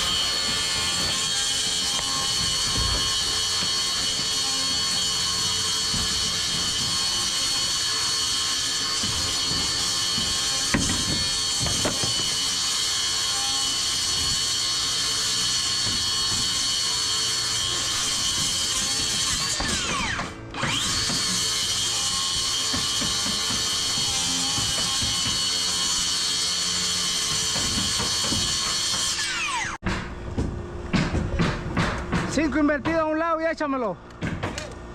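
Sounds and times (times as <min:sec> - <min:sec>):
power tool motor whining: 0:00.0 - 0:29.8.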